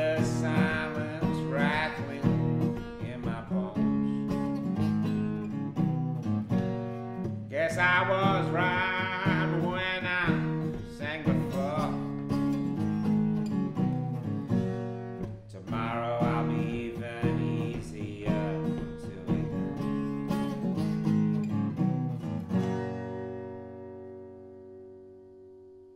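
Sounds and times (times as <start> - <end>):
acoustic guitar: 0.0 - 25.9.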